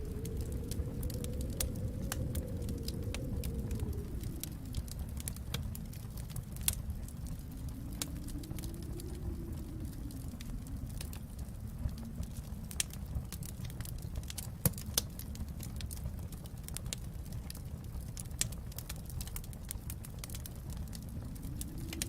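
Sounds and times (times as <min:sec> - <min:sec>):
fire rumbling: 0:00.0 - 0:22.0
wood fire crackling: 0:00.0 - 0:22.0.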